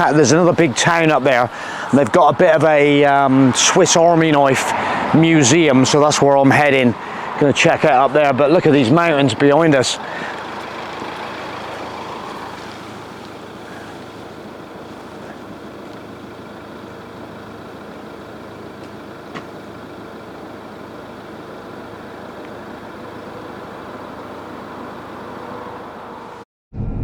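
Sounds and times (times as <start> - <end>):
engine and road noise: 0.0 - 26.5.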